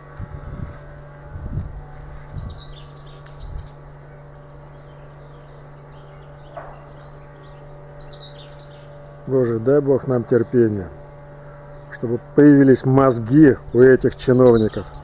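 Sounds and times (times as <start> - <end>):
woodworking machine humming: 0.0 - 15.0
birds chirping: 1.8 - 15.0.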